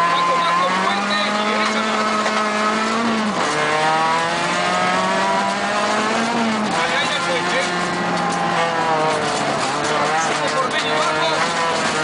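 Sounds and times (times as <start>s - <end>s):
gravel and tyre noise: 0.0s - 12.0s
rally car engine pulling hard: 0.0s - 12.0s.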